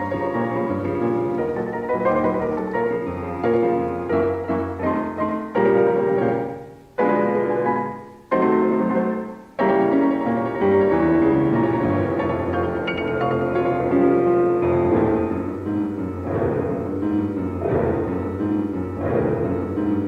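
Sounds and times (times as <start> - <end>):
piano chords: 0.0 - 20.0.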